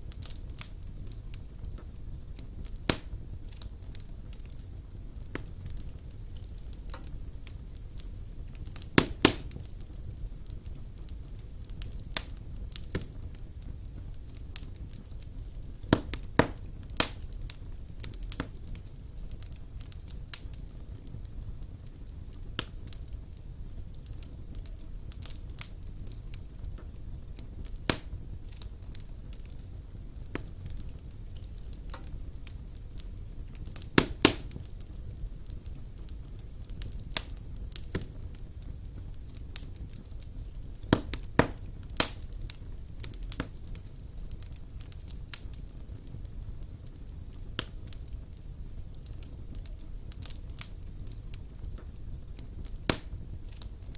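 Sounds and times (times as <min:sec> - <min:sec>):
fire low rumble: 0:00.0 - 0:53.9
wood fire crackling and popping: 0:00.0 - 0:53.9.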